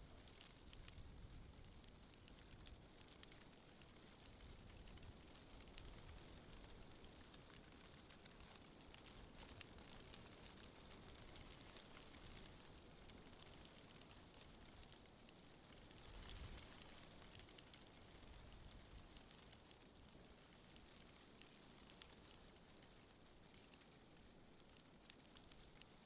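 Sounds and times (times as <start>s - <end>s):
faint steady wind: 0.0s - 26.0s
light ticks and crackles: 0.0s - 26.0s.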